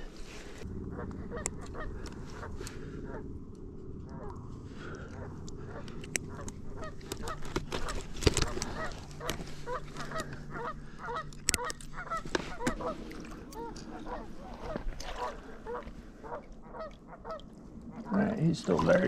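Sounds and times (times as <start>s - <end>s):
geese honking: 0.0s - 3.3s, 4.0s - 19.0s
low outdoor rumble: 0.0s - 19.0s.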